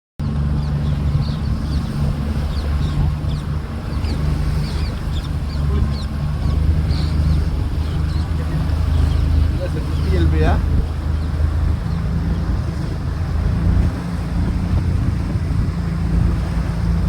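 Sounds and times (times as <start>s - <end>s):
boat engine running: 0.2s - 17.0s.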